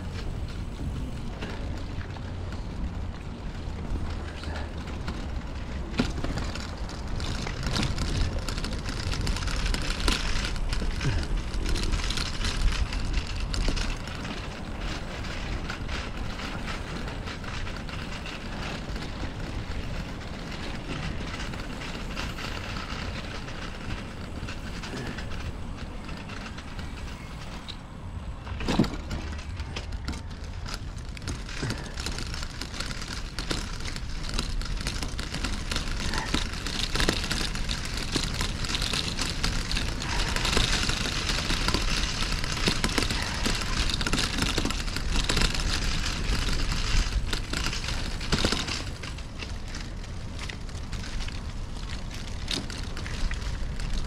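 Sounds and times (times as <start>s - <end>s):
bicycle tyre and wind noise: 0.0s - 54.0s.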